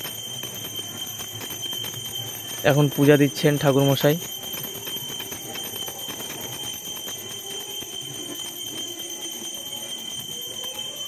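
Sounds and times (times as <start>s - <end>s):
bell ringing rapidly: 0.0s - 11.0s.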